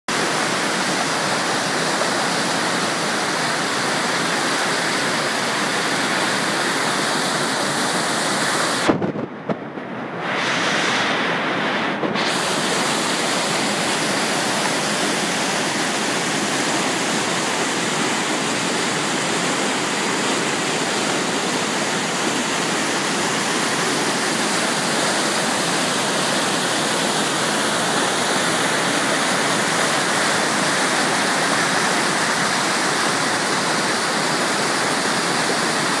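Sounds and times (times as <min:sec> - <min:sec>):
river rushing over rocks: 0:00.1 - 0:09.2, 0:10.0 - 0:36.0.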